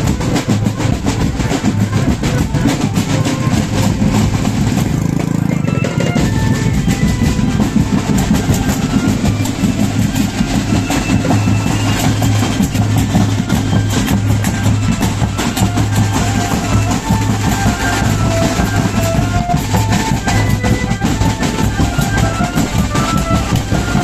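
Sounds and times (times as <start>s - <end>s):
bass drums beating: 0.0s - 24.0s
snare drums beating: 0.0s - 24.0s.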